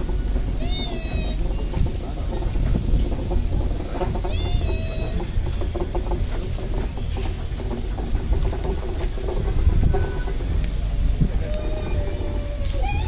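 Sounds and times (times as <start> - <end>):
locomotive clanks and knocks: 0.0 - 13.0
steam locomotive rumbling: 0.0 - 13.0.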